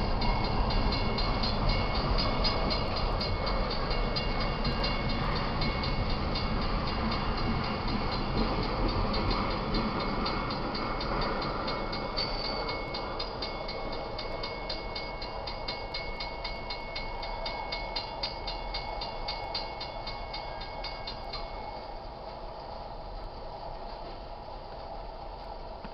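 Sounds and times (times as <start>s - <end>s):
freight train rolling on rails: 0.0s - 25.9s.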